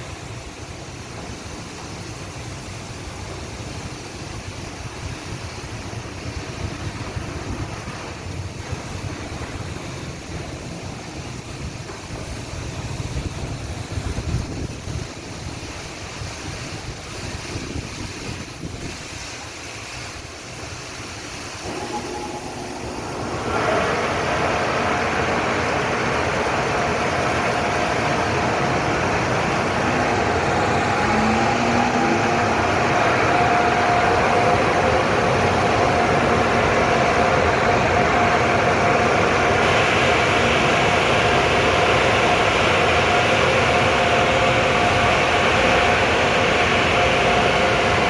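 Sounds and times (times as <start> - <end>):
car wash machinery running: 0.0 - 48.0.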